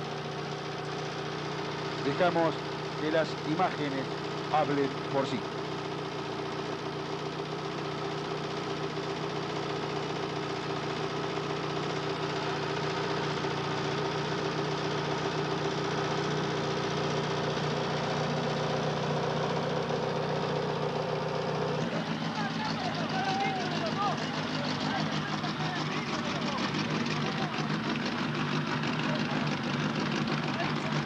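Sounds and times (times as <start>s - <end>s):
race car engine idling: 0.0s - 31.0s.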